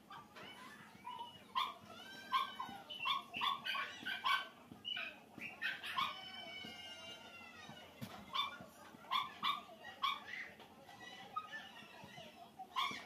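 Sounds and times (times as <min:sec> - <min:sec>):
animal high-pitched cries: 0:00.1 - 0:13.0.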